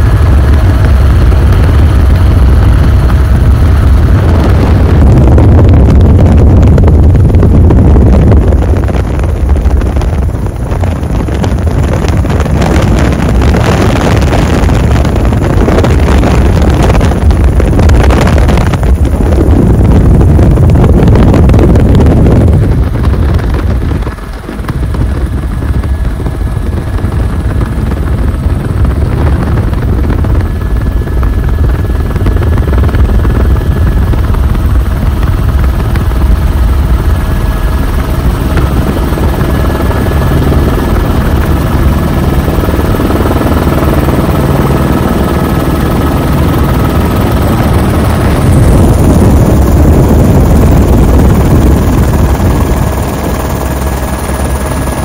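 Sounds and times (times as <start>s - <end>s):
helicopter rotor and engine rumble: 0.0s - 55.0s.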